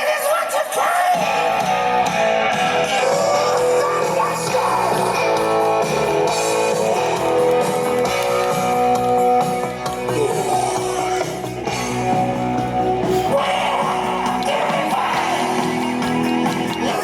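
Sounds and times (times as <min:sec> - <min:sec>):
rock music with guitar: 0:01.1 - 0:17.0.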